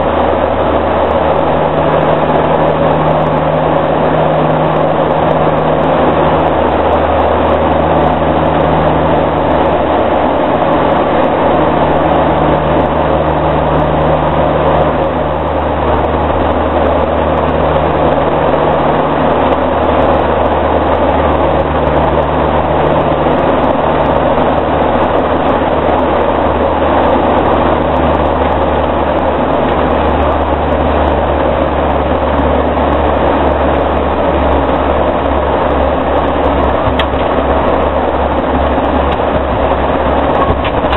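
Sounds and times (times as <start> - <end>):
turboprop engines droning: 0.0 - 40.9.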